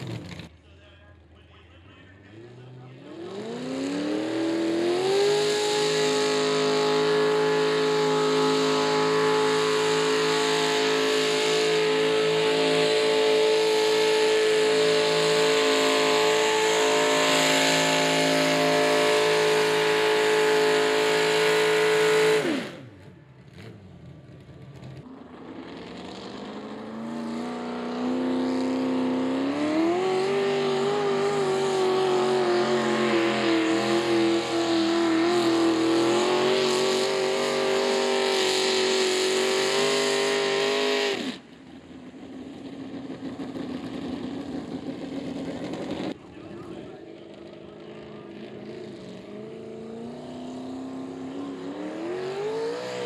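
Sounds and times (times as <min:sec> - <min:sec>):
tractor engine at high revs: 0:00.0 - 0:00.7, 0:02.2 - 0:53.0
second engine revving up: 0:00.0 - 0:00.8, 0:01.4 - 0:53.0.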